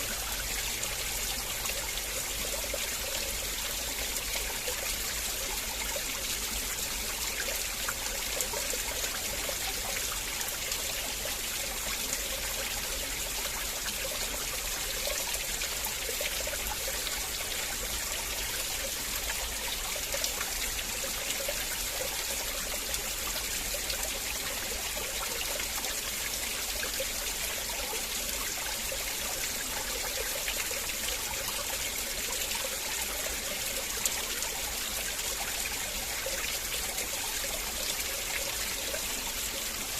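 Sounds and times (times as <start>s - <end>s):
river water flowing and trickling: 0.0s - 39.9s.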